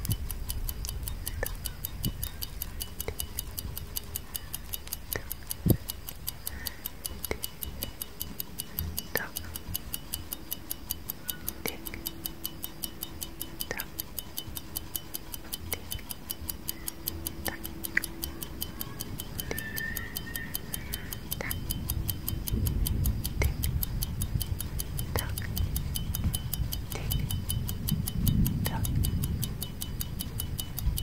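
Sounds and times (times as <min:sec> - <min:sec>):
clock ticking: 0:00.0 - 0:31.0.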